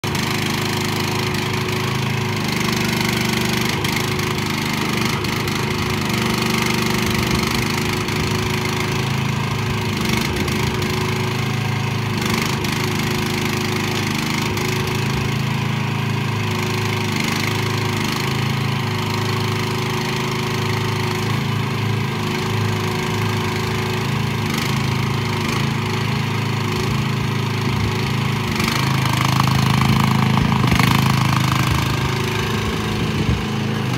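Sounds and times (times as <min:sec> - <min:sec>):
excavator engine running: 0:00.0 - 0:33.9.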